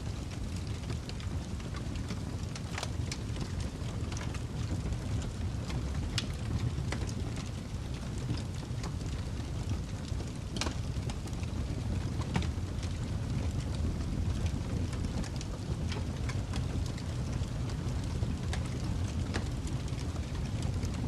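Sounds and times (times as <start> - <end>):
fire crackling and popping: 0.0 - 21.0
fire low rumble: 0.0 - 21.0.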